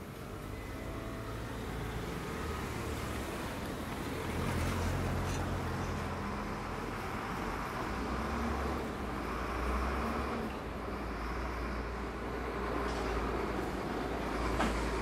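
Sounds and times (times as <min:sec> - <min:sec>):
tyre noise on road: 0:00.0 - 0:15.0
vehicle engines running: 0:00.0 - 0:15.0.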